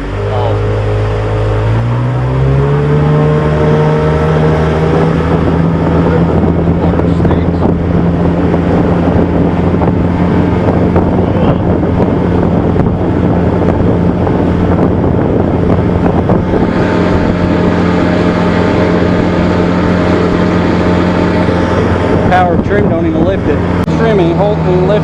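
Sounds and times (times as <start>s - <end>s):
higher steady hum: 0.0s - 25.0s
outboard motor running: 0.0s - 25.0s
wind buffeting microphone: 0.0s - 25.0s.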